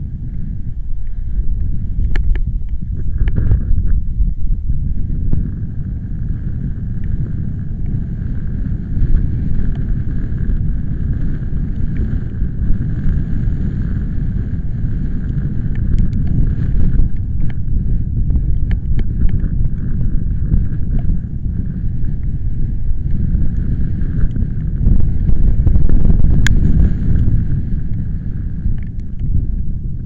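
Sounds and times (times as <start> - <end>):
storm wind buffeting microphone: 0.0 - 30.0.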